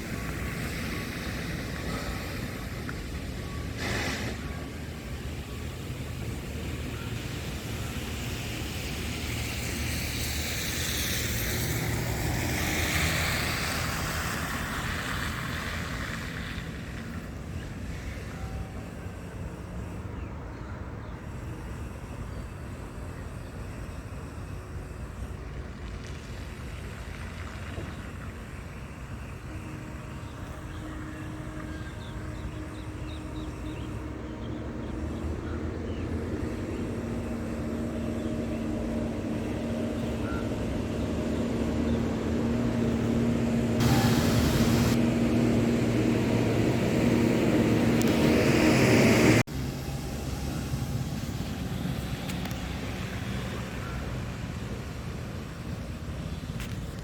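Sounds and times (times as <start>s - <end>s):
truck engine approaching: 0.0s - 20.4s, 21.2s - 57.0s
engine rumble: 0.0s - 57.0s.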